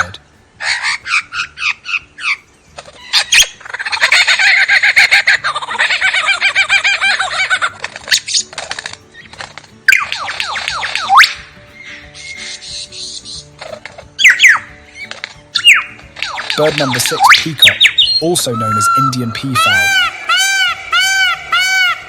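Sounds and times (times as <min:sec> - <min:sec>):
lyrebird singing: 0:00.0 - 0:22.0.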